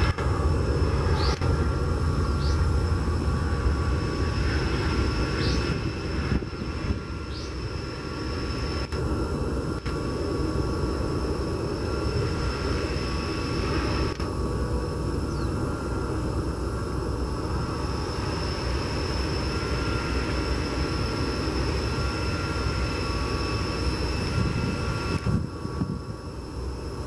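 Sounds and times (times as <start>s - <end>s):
jet engines rumbling with whine: 0.0s - 27.0s.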